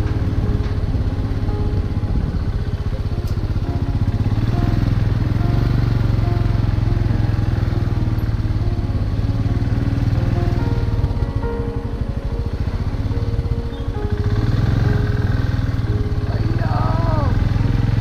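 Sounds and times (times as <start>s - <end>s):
motorcycle engine puttering: 0.0s - 18.0s.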